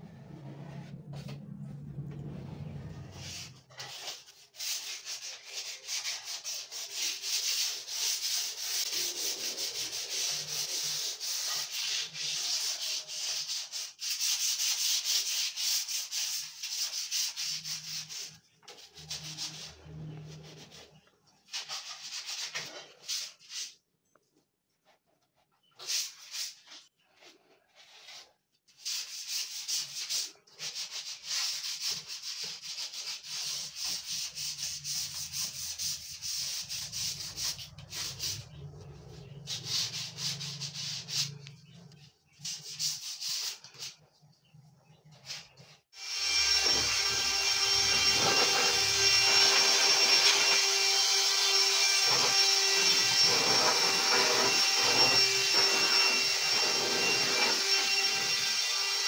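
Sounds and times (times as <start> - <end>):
sandpaper rubbing on wood: 3.1 - 23.8, 25.7 - 44.0, 45.2 - 59.0.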